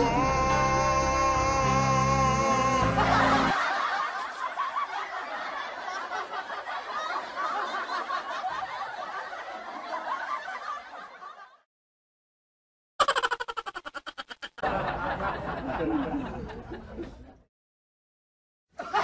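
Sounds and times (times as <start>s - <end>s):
people laughing: 0.0s - 11.6s, 13.0s - 17.5s, 18.8s - 19.0s.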